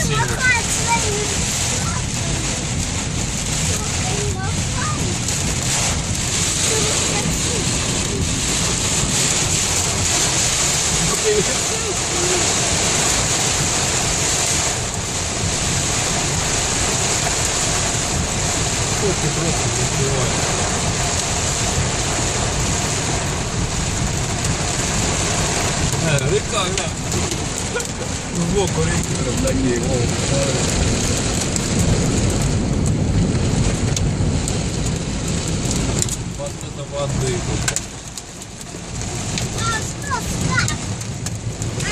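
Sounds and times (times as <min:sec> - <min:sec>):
heavy rain on a car: 0:00.0 - 0:41.9
low rumble: 0:00.0 - 0:41.9.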